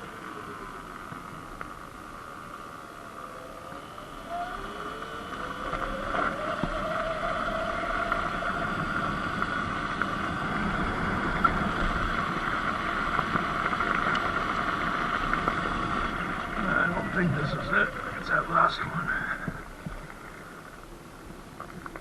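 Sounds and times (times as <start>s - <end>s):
electric motor whine: 0.0s - 18.6s.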